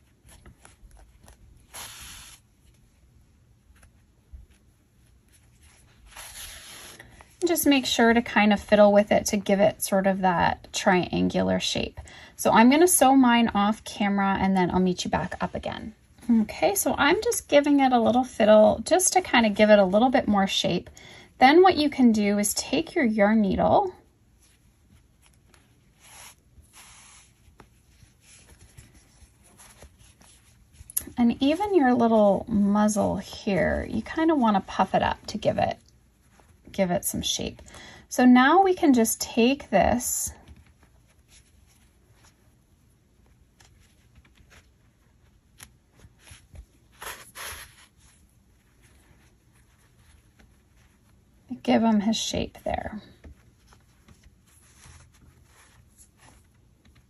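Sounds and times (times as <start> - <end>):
yarn rustling against stitches: 0.0 - 37.6, 38.2 - 57.0.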